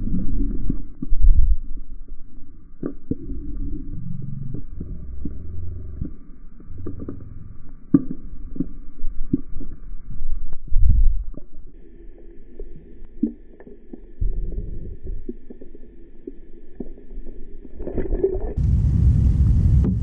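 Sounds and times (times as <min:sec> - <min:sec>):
faint steady whine: 0:00.0 - 0:20.0
underwater rumble and thumps: 0:00.0 - 0:20.0.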